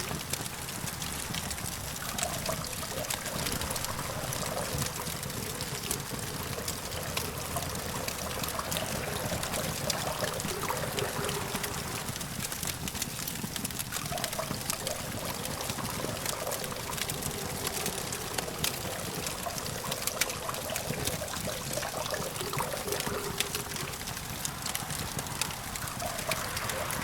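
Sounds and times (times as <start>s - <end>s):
campfire crackling and popping: 0.0s - 27.0s
distant traffic hum: 0.0s - 27.0s.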